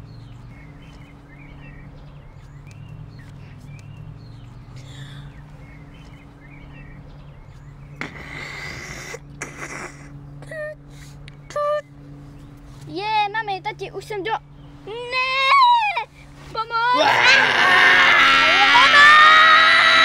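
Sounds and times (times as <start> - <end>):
birds chirping: 0.0 - 20.0
steady low hum: 0.0 - 20.0.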